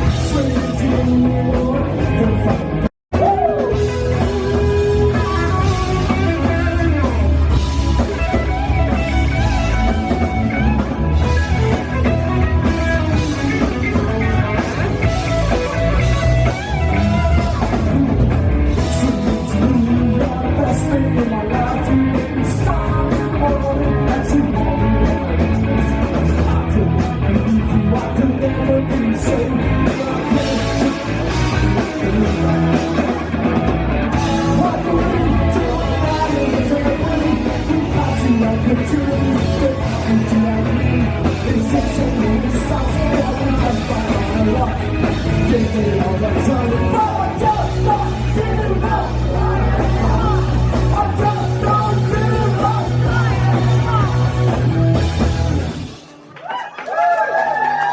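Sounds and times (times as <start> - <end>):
bass guitar: 0.0 - 57.9
drums: 0.0 - 57.9
electric guitar: 0.0 - 57.9.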